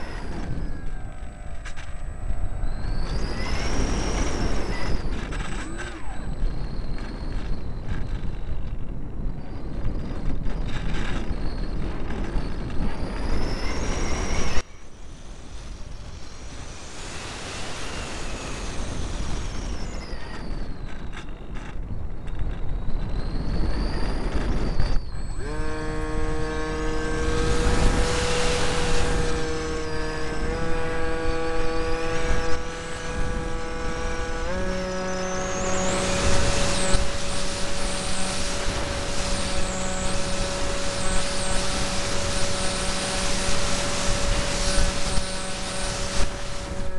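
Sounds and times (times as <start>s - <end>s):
electric motor whine: 0.0s - 46.9s
high electric motor hum: 0.0s - 46.9s
wind rushing over microphone: 0.0s - 46.9s.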